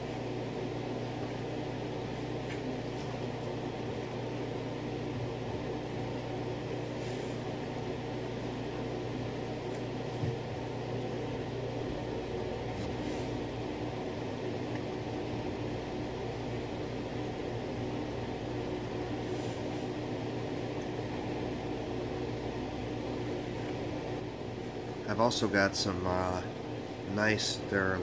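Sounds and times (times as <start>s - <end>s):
low machine hum with hiss: 0.0s - 28.0s.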